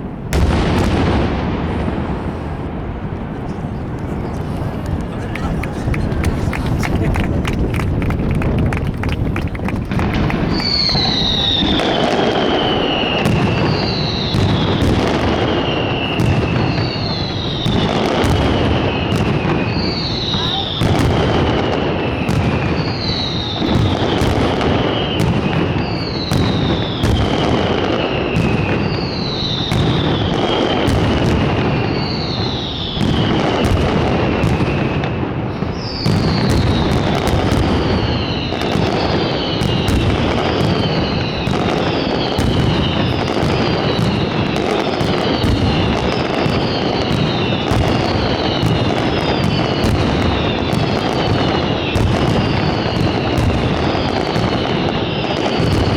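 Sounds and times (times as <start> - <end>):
fireworks bangs and crackling: 0.0 - 55.9
falling firework whistles: 0.3 - 55.9.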